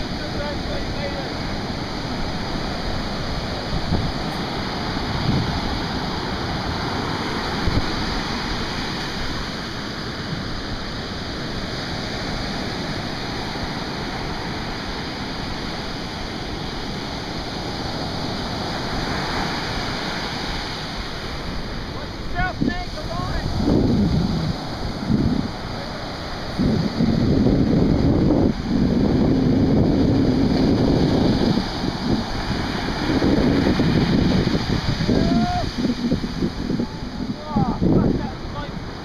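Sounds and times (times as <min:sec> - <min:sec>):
surf breaking on beach: 0:00.0 - 0:39.0.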